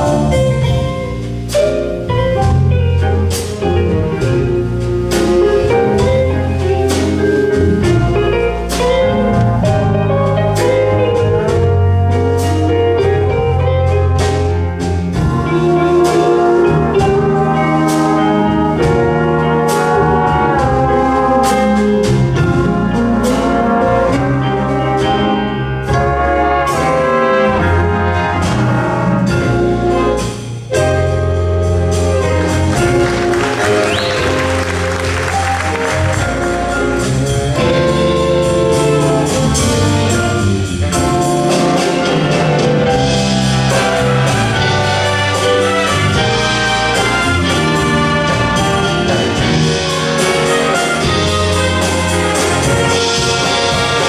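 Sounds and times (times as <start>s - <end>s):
brass and saxophone chords: 0.0s - 54.0s
drum and cymbal beat: 0.0s - 54.0s.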